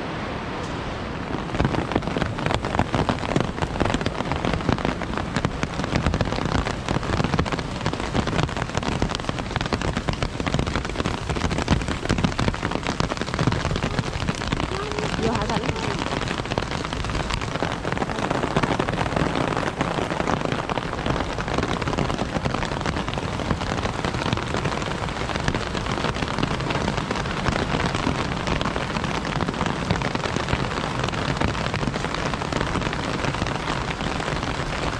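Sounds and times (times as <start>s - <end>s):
rain drops striking close: 0.0s - 34.9s.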